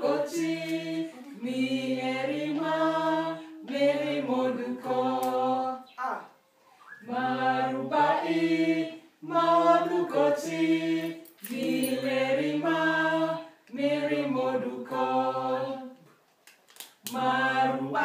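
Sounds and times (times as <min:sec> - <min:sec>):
group of people singing: 0:00.0 - 0:06.0, 0:06.9 - 0:16.1, 0:17.1 - 0:18.0.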